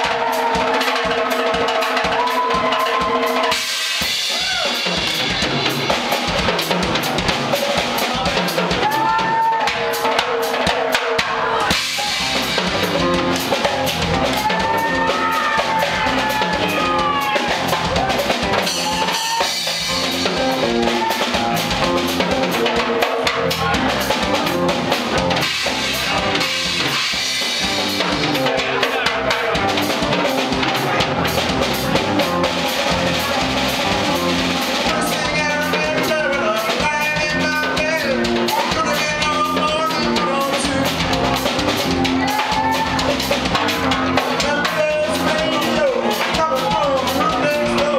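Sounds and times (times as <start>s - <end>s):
bass drum and snare beat: 0.0s - 47.9s
rock band playing: 0.0s - 47.9s.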